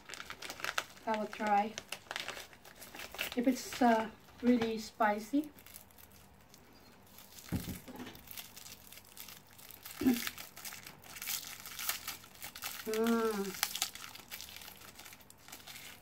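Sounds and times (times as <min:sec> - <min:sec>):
plastic wrapper crinkling: 0:00.0 - 0:16.0.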